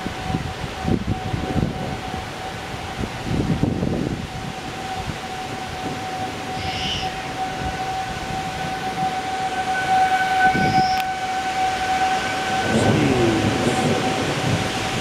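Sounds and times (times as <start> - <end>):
rushing noise: 0.0 - 15.0
warning siren steady tone: 0.0 - 15.0.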